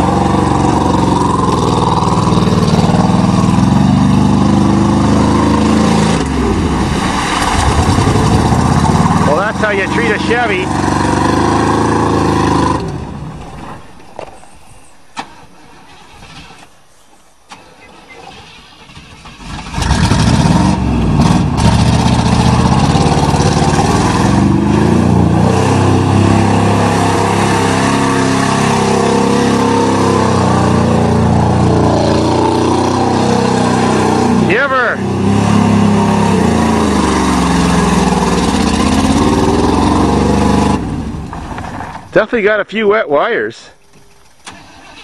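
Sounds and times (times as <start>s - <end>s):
pickup engine running: 0.0s - 14.0s, 19.1s - 42.1s.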